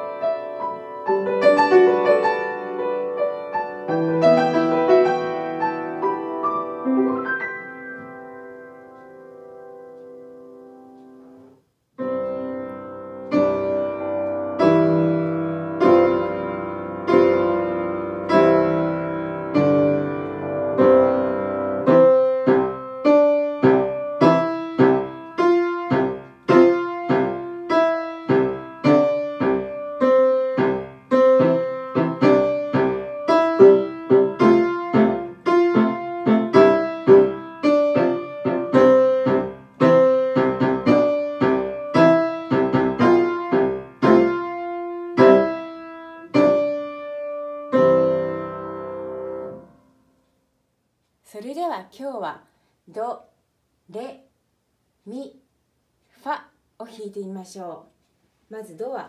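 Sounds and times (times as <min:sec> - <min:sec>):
piano playing: 0:00.0 - 0:50.0.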